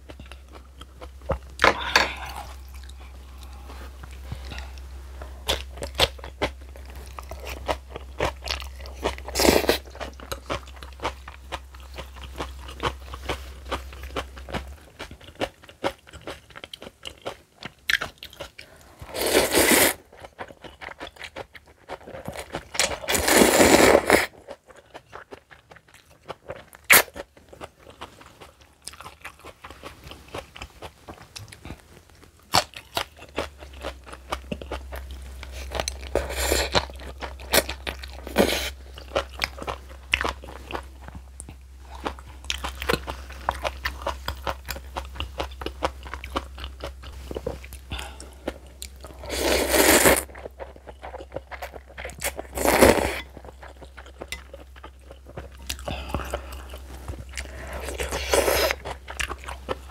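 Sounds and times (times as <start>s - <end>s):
crunching and wet chewing: 2.2s - 59.9s.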